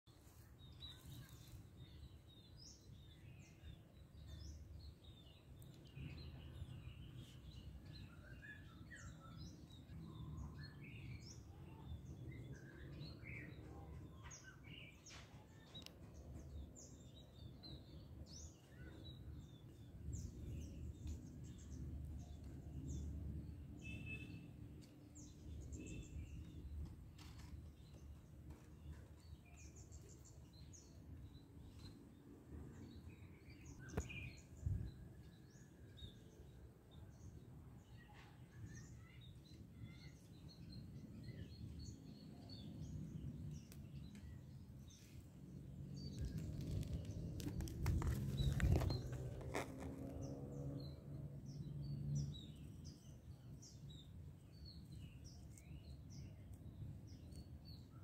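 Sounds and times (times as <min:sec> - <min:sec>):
birds chirping: 0:00.7 - 0:57.9.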